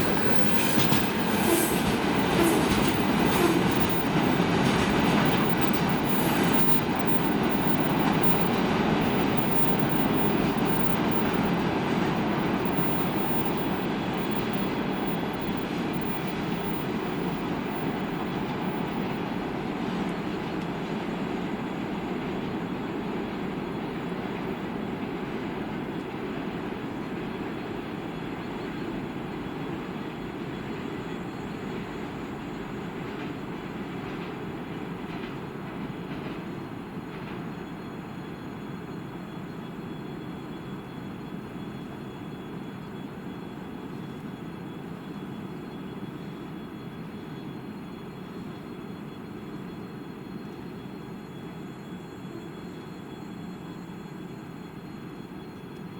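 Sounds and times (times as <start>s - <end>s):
freight train rumbling on rails: 0.0s - 53.1s.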